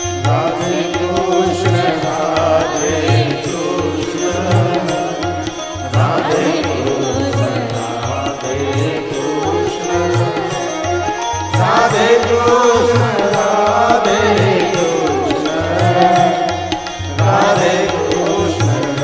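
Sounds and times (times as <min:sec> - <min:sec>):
man singing devotional song: 0:00.0 - 0:19.0.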